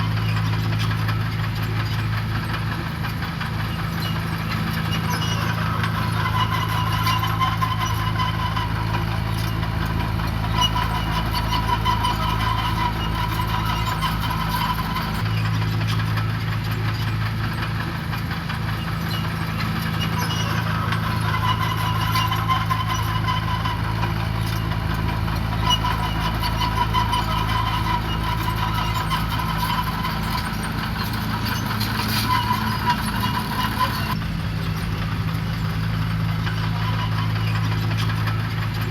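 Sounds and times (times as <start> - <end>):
heavy machinery diesel engine: 0.0 - 38.9
high machine whine: 3.8 - 15.5, 18.8 - 38.5.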